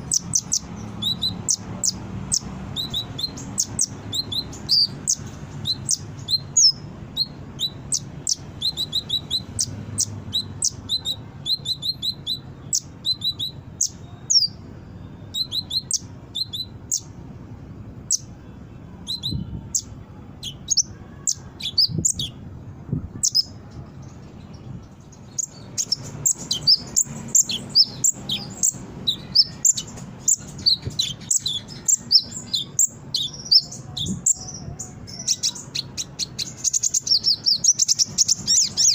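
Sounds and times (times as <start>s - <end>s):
bird singing high chirps: 0.0s - 17.3s, 18.0s - 38.9s.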